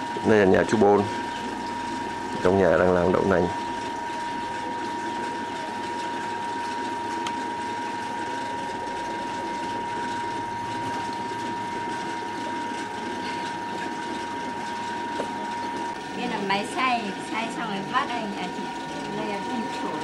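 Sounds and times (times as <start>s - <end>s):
stone mill grinding with whine: 0.0s - 20.0s.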